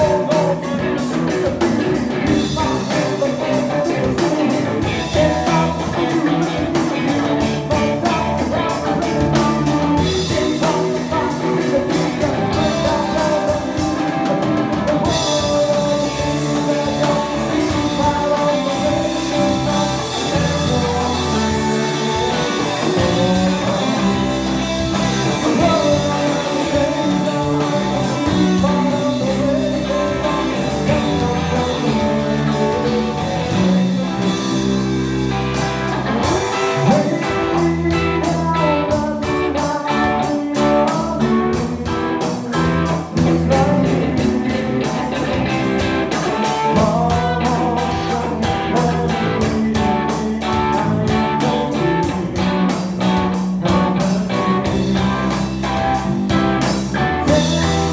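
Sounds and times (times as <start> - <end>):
blues rock band playing: 0.0 - 57.9
person singing: 0.0 - 57.9.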